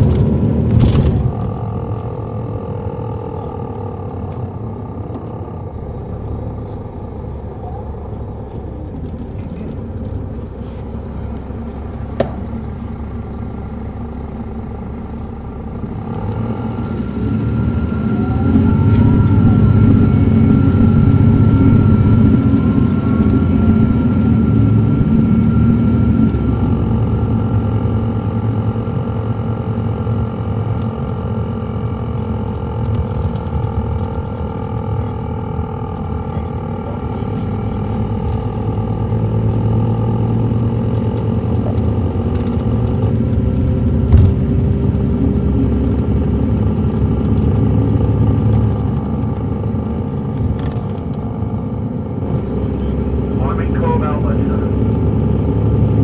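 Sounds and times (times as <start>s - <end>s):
bus diesel engine running: 0.0s - 56.0s
steady whine: 0.0s - 56.0s.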